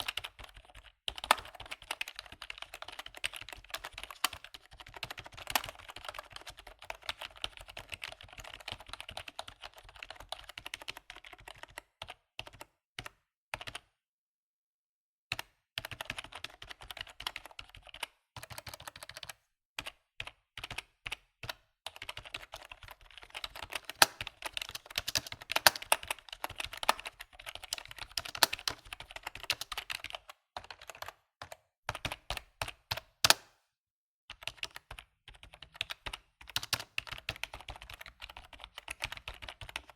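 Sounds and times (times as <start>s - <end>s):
typing on computer keyboard: 0.0s - 13.9s, 15.3s - 33.6s, 34.3s - 39.9s.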